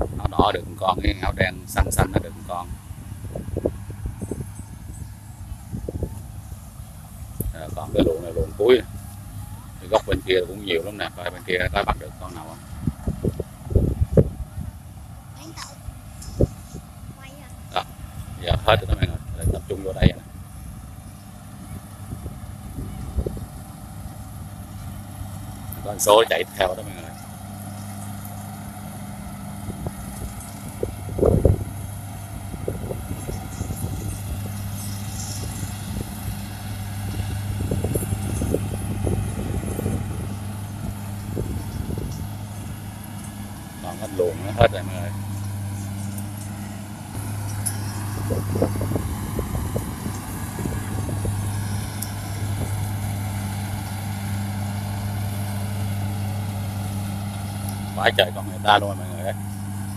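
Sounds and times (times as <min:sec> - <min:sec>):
low rumble: 0:00.0 - 0:28.4, 0:29.6 - 0:59.9
combine harvester engine drone: 0:00.0 - 0:59.9.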